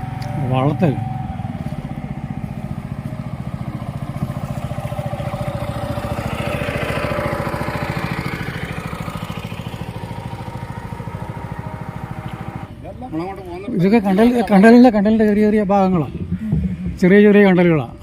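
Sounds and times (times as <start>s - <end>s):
small boat engine running: 0.0s - 14.6s, 15.2s - 18.0s.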